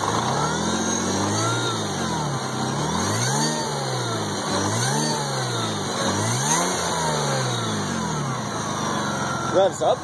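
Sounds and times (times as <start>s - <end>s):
engine revving: 0.0s - 10.0s.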